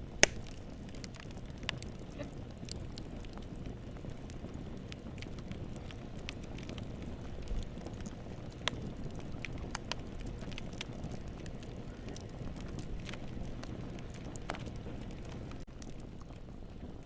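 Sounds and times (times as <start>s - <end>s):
low rumble of flame: 0.0s - 17.0s
wood fire crackling and popping: 0.0s - 17.0s.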